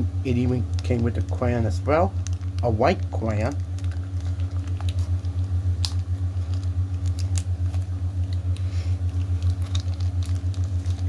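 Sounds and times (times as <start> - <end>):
low throbbing hum: 0.0 - 11.0.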